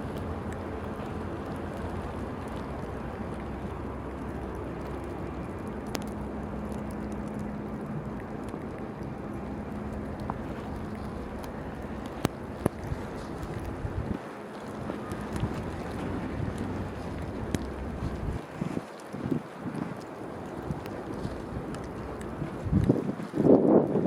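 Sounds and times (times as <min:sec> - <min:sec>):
low hum: 0:00.0 - 0:23.0
traffic rumble: 0:00.0 - 0:24.0
wind: 0:00.0 - 0:24.0.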